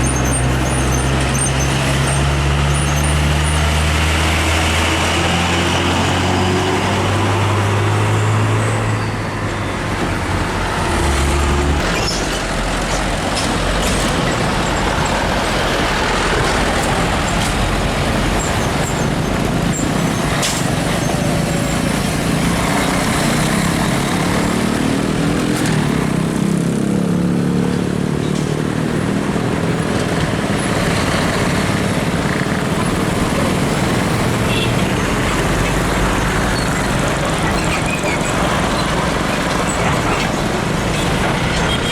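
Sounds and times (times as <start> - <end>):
diesel truck engine drone: 0.0 - 41.9
traffic and tyre noise: 0.0 - 41.9.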